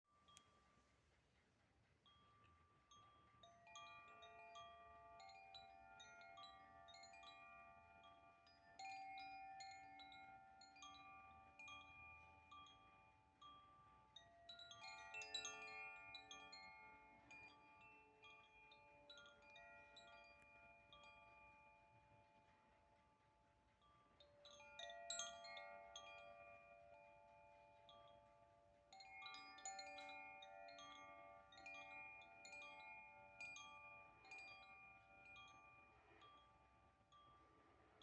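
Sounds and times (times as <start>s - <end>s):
wind chime ringing: 2.9s - 22.2s, 24.4s - 38.0s.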